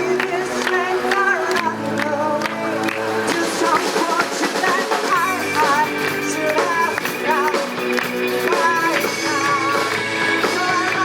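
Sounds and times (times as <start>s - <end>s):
drum kit: 0.0s - 11.0s
electric guitar: 0.0s - 11.0s
rock band playing live: 0.0s - 11.0s.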